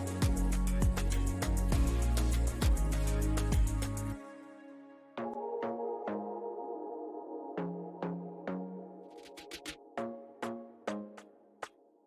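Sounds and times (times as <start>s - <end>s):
soft ambient synthesizer chords: 0.0s - 11.4s.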